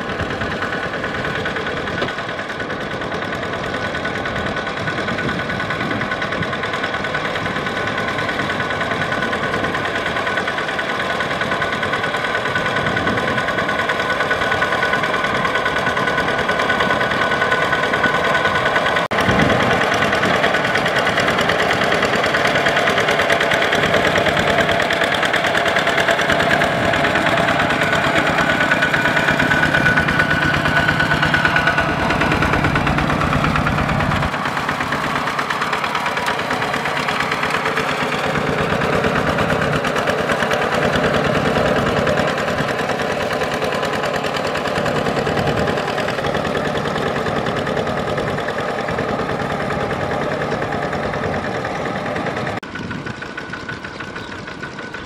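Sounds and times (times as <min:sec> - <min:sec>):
diesel engine running under load: 0:00.0 - 0:55.0
wheels churning water: 0:00.0 - 0:55.0.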